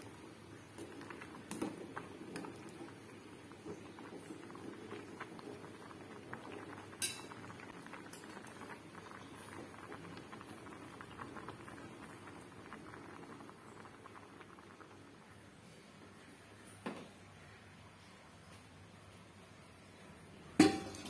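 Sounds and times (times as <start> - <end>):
water boiling and bubbling: 0.0 - 16.6, 20.5 - 21.0.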